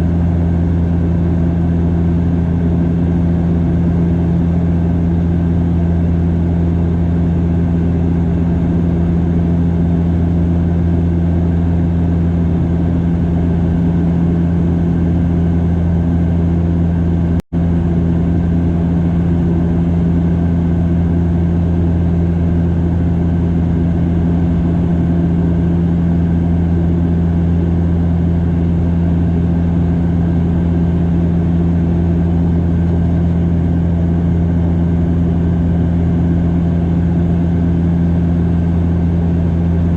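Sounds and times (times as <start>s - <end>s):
turboprop engines droning in cabin: 0.0s - 39.9s.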